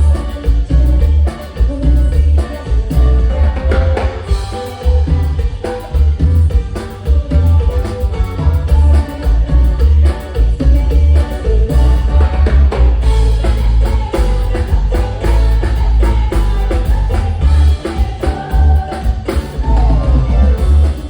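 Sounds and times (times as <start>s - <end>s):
booming bass: 0.0s - 21.0s
drums: 0.0s - 21.0s
live band music: 0.0s - 21.0s
person singing: 0.0s - 21.0s.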